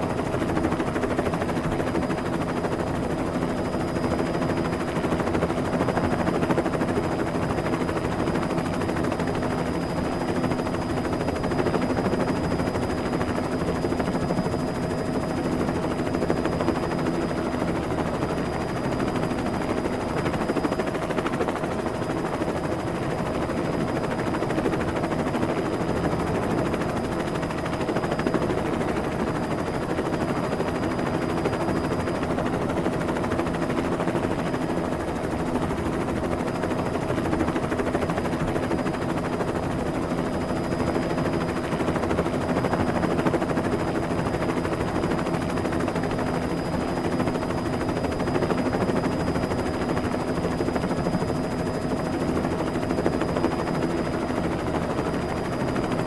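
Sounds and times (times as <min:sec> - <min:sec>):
helicopter engine tone: 0:00.0 - 0:56.0
helicopter rotor blades chopping: 0:00.1 - 0:56.0.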